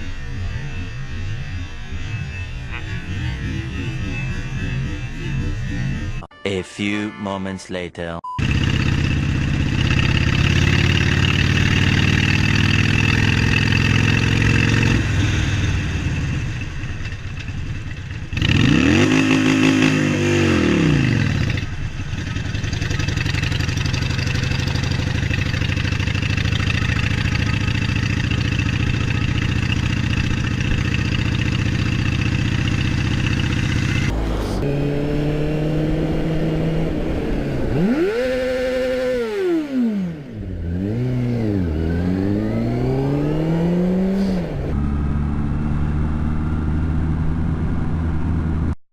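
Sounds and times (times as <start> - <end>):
motorcycle engine revving: 0.0 - 6.3, 8.4 - 48.8.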